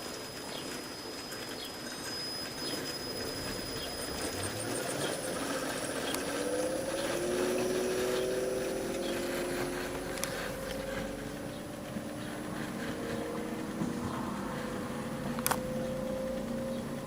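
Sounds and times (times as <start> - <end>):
window air conditioner humming: 0.0 - 17.0.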